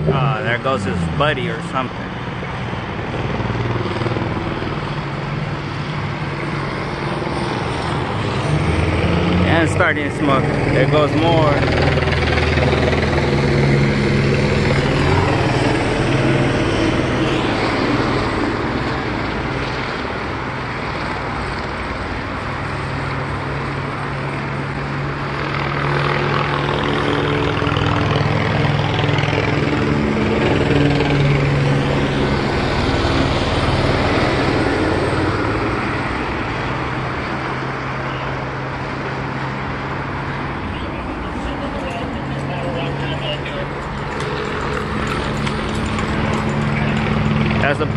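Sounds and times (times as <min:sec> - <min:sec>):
helicopter hovering overhead: 0:00.0 - 0:47.9.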